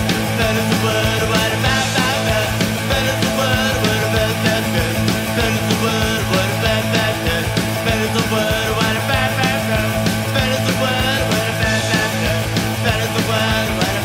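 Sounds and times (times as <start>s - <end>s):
rock music with drumbeat: 0.0s - 14.0s.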